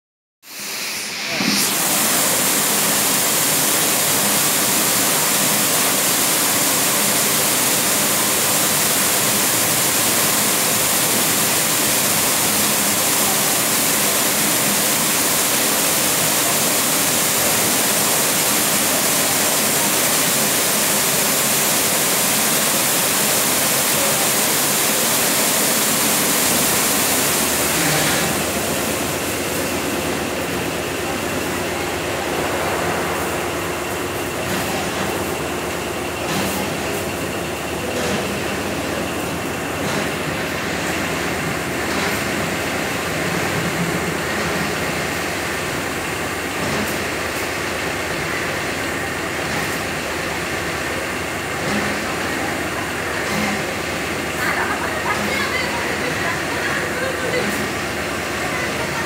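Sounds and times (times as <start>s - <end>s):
car wash machinery whining: 0.4s - 59.0s
water spraying hard: 0.5s - 59.0s.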